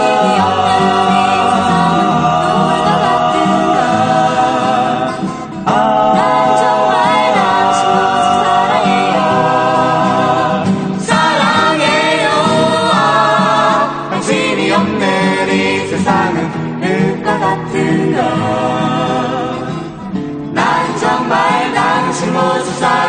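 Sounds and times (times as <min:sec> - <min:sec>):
instrumental accompaniment: 0:00.0 - 0:23.0
pop song sung by vocal group: 0:00.0 - 0:23.0.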